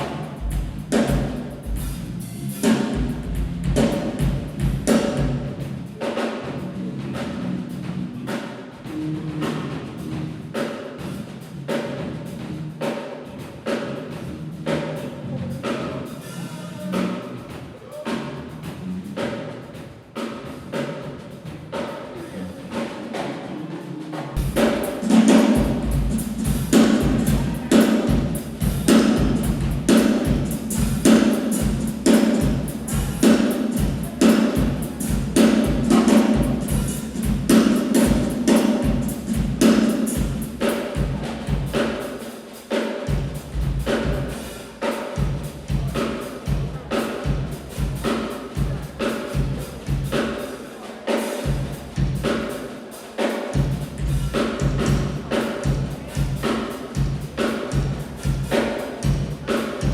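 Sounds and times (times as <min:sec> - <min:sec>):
drum kit playing fast groove: 0:00.0 - 0:59.9.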